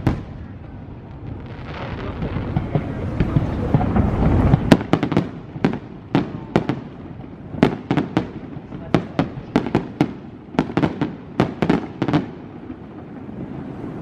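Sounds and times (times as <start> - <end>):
fireworks booming rumble: 0.0 - 14.0
fireworks crackling bangs: 0.0 - 14.0.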